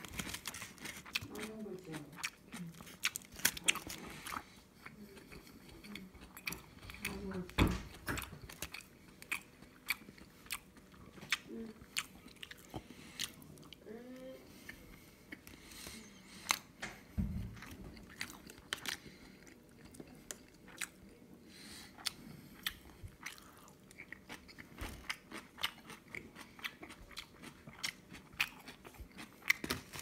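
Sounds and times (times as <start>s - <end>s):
wet chewing and smacking: 0.0s - 13.8s, 14.5s - 21.2s, 22.0s - 30.0s.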